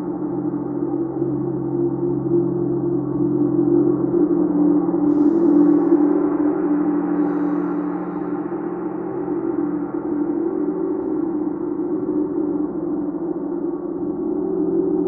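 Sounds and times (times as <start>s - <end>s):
gong ringing deep hum: 0.0s - 15.0s.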